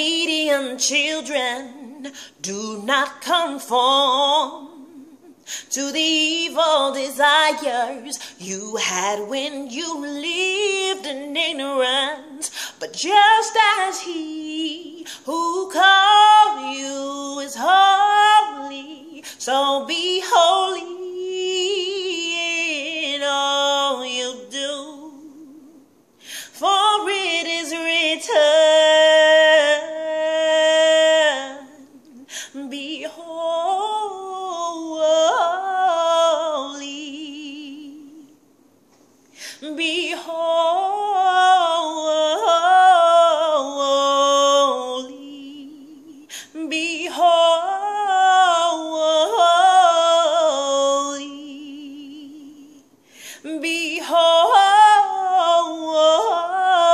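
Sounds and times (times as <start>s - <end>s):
woman singing unaccompanied: 0.0s - 38.4s, 39.5s - 56.9s.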